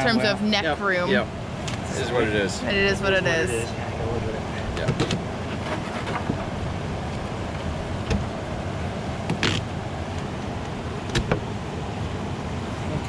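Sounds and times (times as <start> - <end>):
outdoor rushing noise: 0.0 - 13.0.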